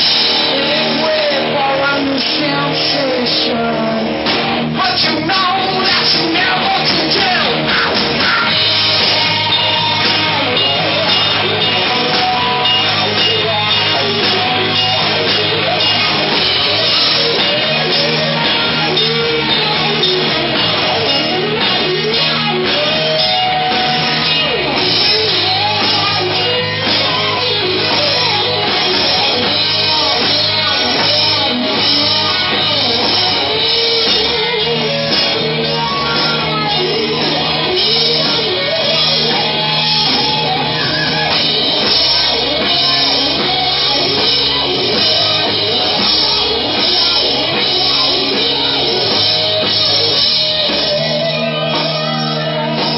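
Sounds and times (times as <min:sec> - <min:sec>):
bass guitar: 0:00.0 - 0:52.9
drums: 0:00.0 - 0:52.9
electric guitar: 0:00.0 - 0:52.9
person singing: 0:00.0 - 0:52.9.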